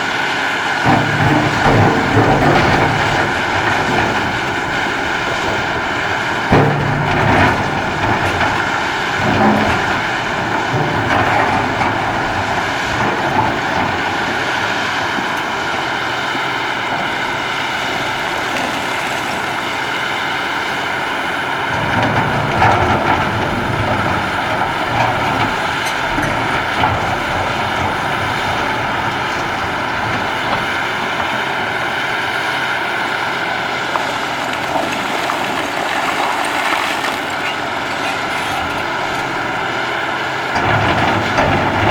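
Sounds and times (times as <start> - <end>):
diesel engine drone: 0.0 - 41.9
hydraulic whine: 0.8 - 40.0.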